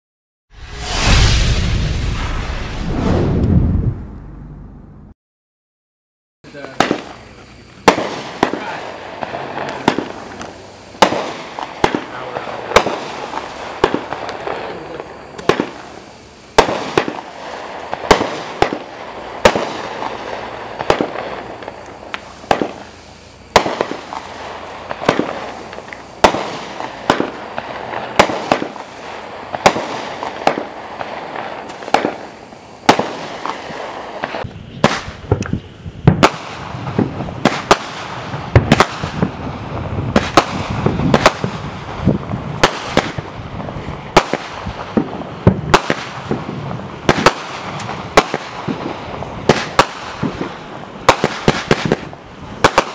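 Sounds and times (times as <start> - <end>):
fireworks bangs: 0.6 - 5.0, 6.4 - 52.9.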